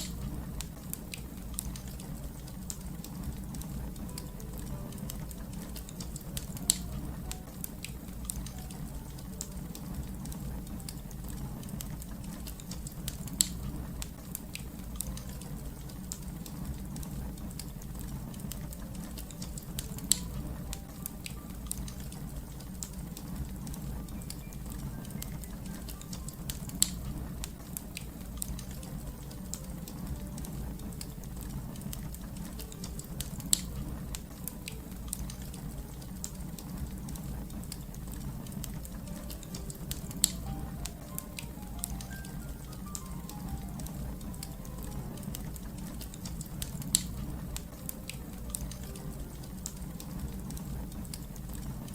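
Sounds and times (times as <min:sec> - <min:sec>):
fire crackling: 0:00.0 - 0:51.9
fire popping: 0:00.0 - 0:51.9.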